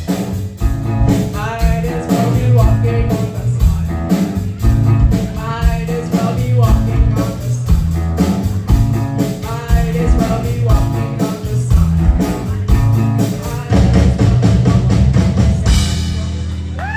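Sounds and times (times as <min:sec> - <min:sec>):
lead vocal singing: 0:00.0 - 0:15.8
live rock band playing: 0:00.0 - 0:16.9.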